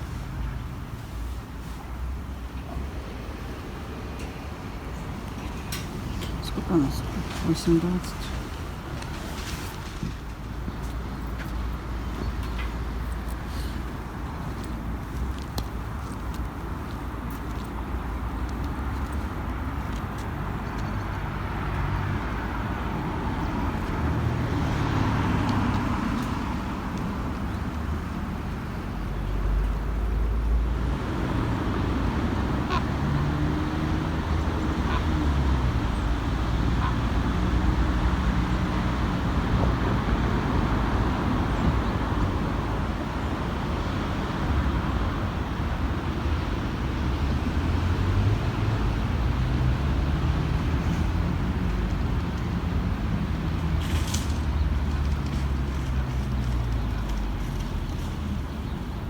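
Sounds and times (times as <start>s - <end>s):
road rumble: 0.0s - 59.0s.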